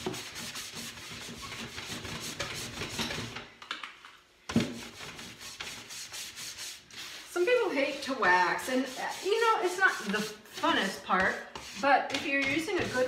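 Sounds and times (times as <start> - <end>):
wax brush scrubbing wood: 0.0 - 3.0, 4.8 - 13.0.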